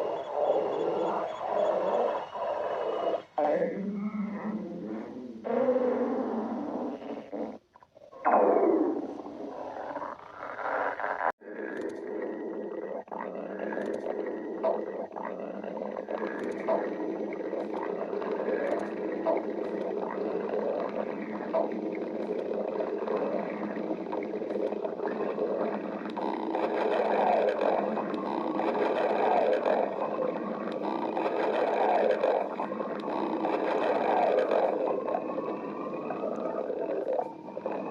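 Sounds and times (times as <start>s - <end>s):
stomach growling: 0.0s - 37.9s.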